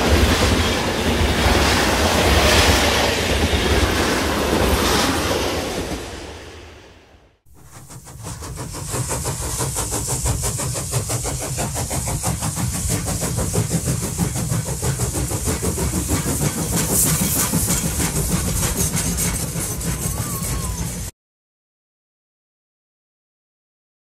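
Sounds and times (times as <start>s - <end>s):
train engine running: 0.0s - 21.1s.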